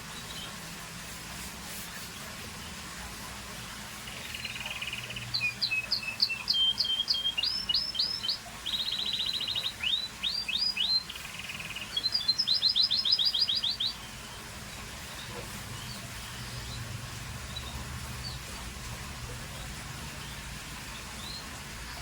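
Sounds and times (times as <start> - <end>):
canary singing trills: 4.0 - 22.0.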